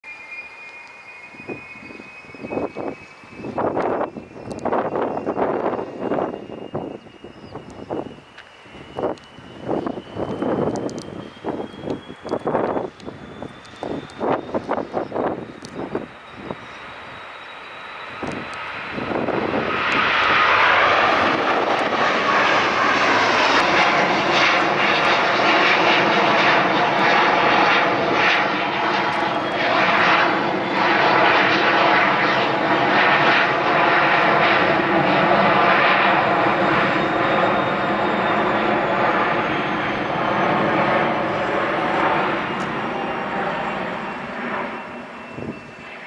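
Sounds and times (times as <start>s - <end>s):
jet engines roaring at takeoff: 0.1s - 46.0s.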